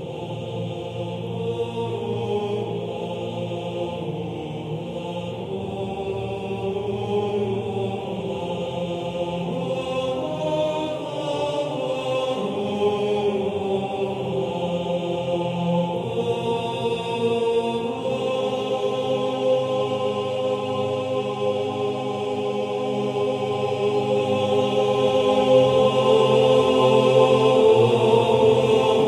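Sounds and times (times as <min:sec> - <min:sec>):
choral chanting: 0:00.0 - 0:29.0.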